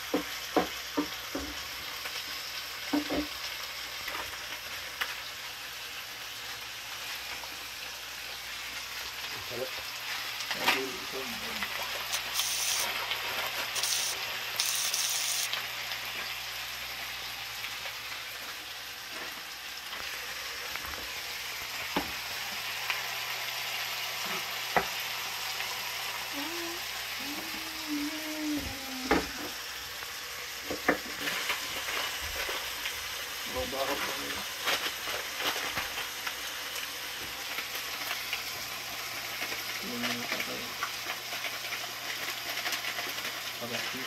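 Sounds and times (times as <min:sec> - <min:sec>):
vegetables sizzling in a frying pan: 0:00.0 - 0:44.0.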